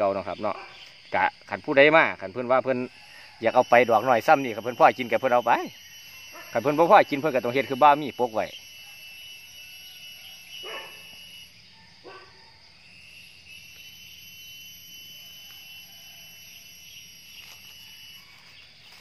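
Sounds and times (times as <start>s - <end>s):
constant high hiss: 0.0s - 19.0s
night insects trilling: 0.0s - 19.0s.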